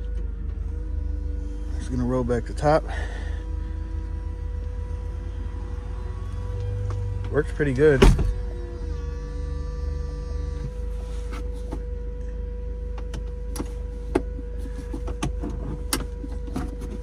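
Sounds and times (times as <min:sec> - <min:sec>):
car engine idling: 0:00.0 - 0:17.0
electric roof motor whining: 0:00.0 - 0:17.0.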